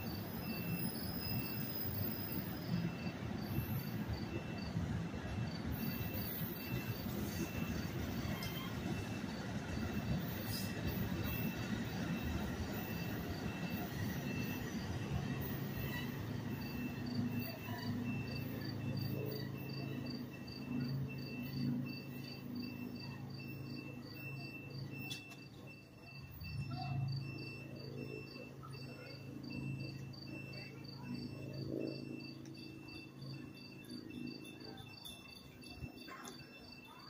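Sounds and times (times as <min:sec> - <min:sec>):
crickets chirping: 0:00.0 - 0:37.0
train rumbling and humming: 0:00.0 - 0:37.0.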